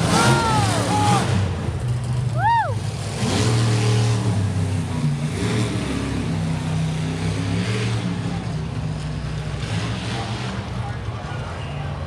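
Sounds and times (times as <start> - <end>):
monster truck engine revving: 0.0 - 11.6.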